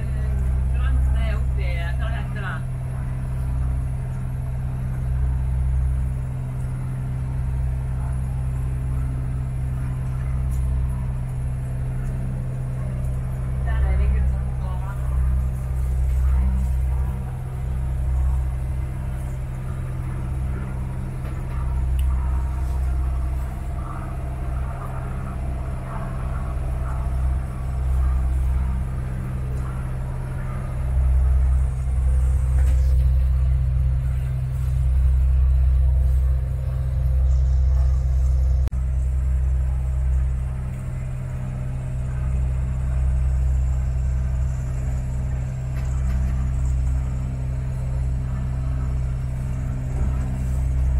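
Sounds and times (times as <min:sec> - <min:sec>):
motorboat engine droning: 0:00.0 - 0:50.9.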